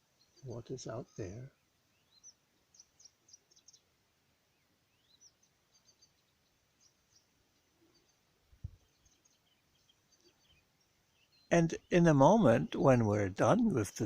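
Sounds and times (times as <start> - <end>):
faint high bird chirps: 0.0 - 3.9, 4.5 - 12.8.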